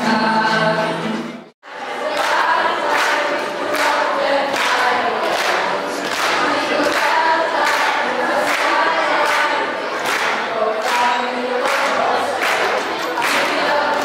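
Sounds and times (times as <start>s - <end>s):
children singing together: 0.0s - 14.0s
hand claps: 2.1s - 14.0s.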